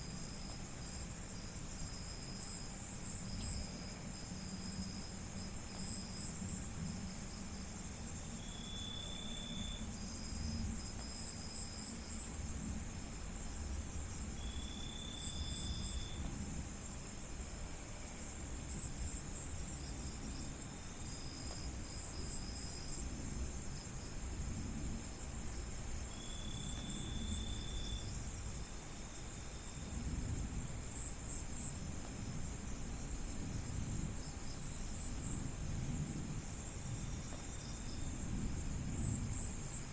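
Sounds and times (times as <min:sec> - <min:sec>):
crickets trilling: 0:00.0 - 0:39.9
lower insect note: 0:00.0 - 0:39.9.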